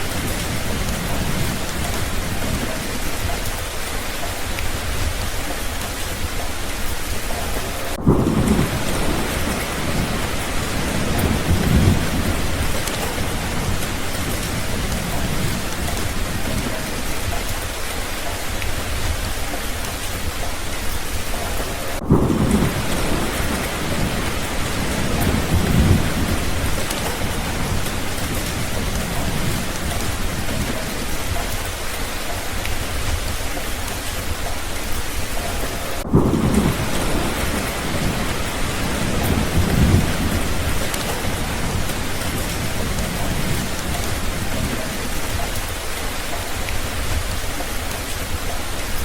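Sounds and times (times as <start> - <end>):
thunder rolling: 0.0 - 3.5, 7.2 - 17.7, 21.0 - 31.9, 32.5 - 48.8
heavy rain: 0.0 - 49.0.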